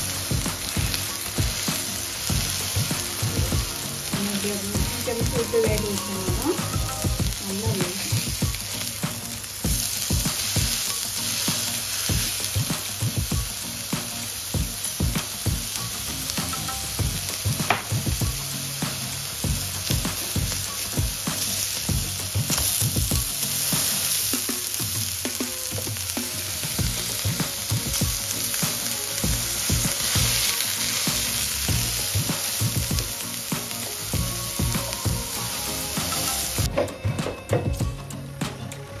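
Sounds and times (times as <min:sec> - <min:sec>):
burger patties sizzling in oil: 0:00.0 - 0:36.7.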